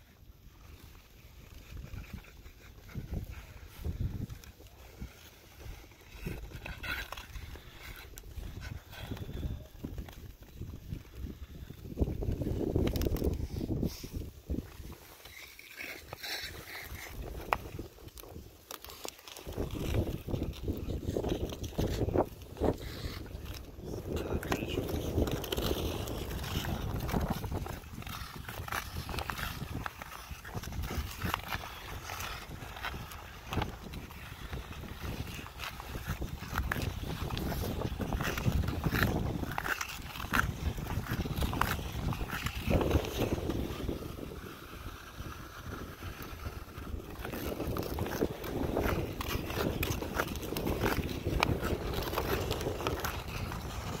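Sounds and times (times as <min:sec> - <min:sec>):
ice skate blades scraping ice: 0:00.0 - 0:54.0.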